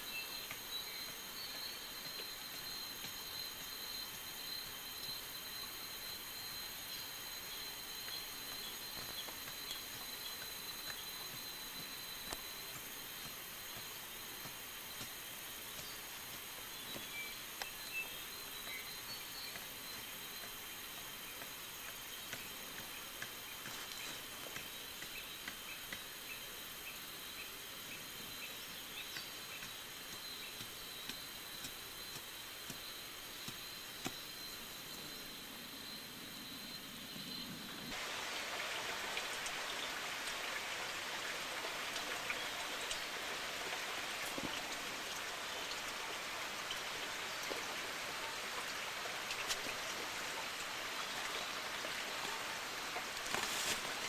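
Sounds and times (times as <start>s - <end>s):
steady rushing hiss: 0.0s - 54.0s.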